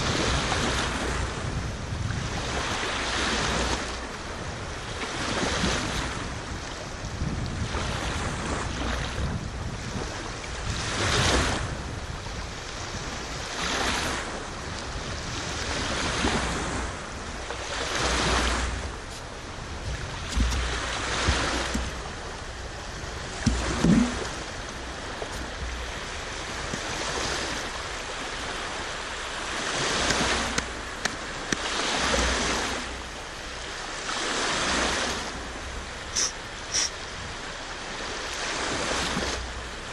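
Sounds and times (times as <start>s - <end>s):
sea waves washing in: 0.0s - 39.9s
wind rumble on microphone: 0.0s - 39.9s.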